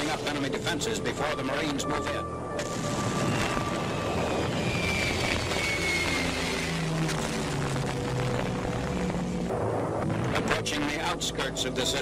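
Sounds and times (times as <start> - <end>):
faint high whine: 0.0 - 12.0
propeller aircraft engines droning: 0.0 - 12.0.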